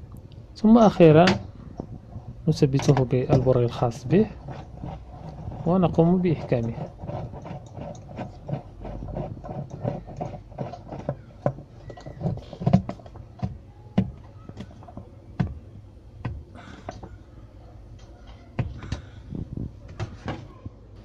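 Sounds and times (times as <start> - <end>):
parts knocking and clattering: 0.7 - 17.2, 17.9 - 20.8.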